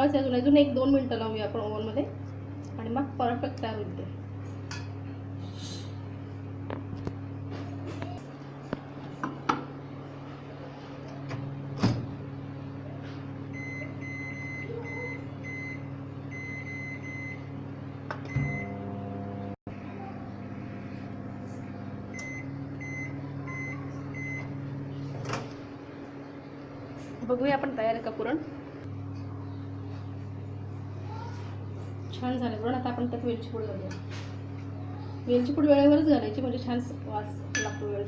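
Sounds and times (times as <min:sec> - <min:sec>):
microwave oven humming: 0:00.0 - 0:38.0.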